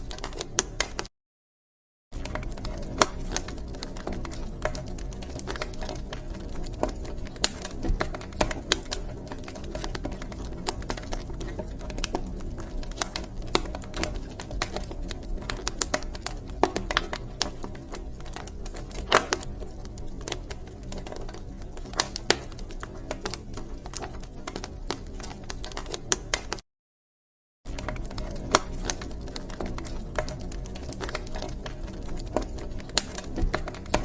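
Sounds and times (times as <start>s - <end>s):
low rumble of burning: 0.0s - 1.1s, 2.2s - 26.6s, 27.7s - 34.0s
wood fire crackling: 0.0s - 1.1s, 2.2s - 26.6s, 27.7s - 34.0s.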